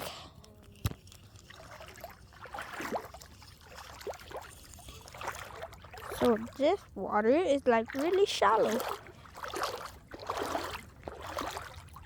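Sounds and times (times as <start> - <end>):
footsteps wading through water: 1.0 - 12.0.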